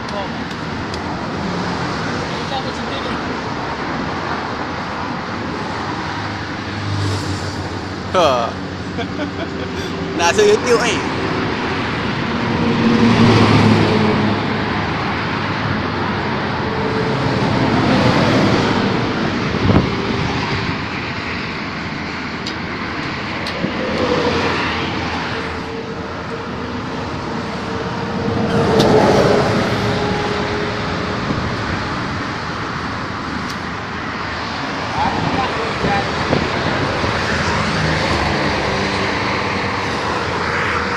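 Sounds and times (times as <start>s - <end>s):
highway traffic passing: 0.0s - 40.9s.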